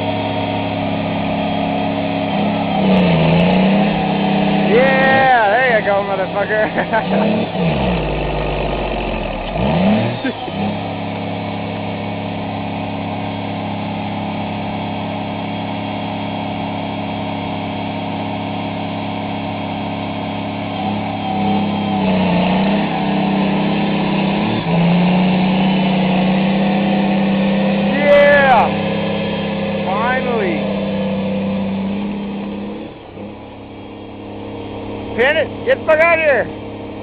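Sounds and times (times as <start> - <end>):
tractor engine under load: 0.0 - 37.0.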